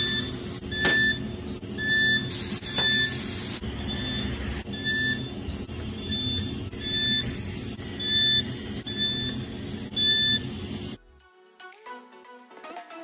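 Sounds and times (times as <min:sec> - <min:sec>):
spot welder low electric buzz: 0:00.0 - 0:11.0.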